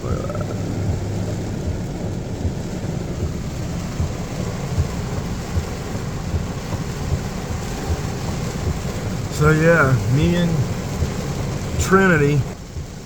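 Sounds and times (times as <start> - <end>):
heavy rain pelting a car: 0.0 - 13.0
road and engine rumble: 0.0 - 13.0.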